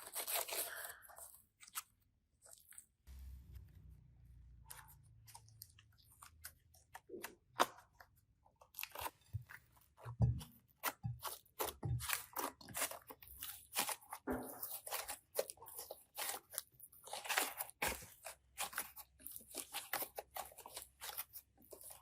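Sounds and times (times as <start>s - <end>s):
slime crunching and crackling: 0.0s - 3.1s, 4.5s - 22.0s.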